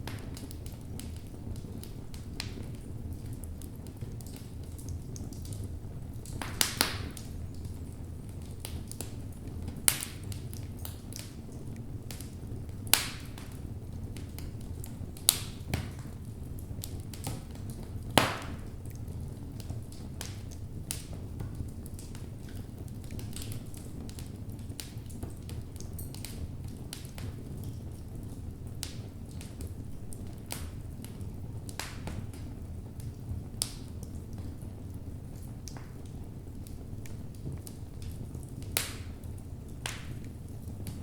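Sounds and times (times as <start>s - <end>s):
fire rumbling in fireplace: 0.0s - 41.0s
wood crackling and popping: 0.0s - 41.0s.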